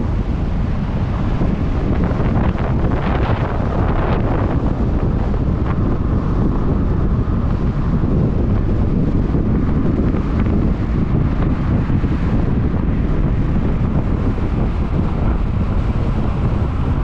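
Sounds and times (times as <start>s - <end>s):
car driving on road: 0.0s - 17.0s
wind buffeting microphone: 0.0s - 17.0s.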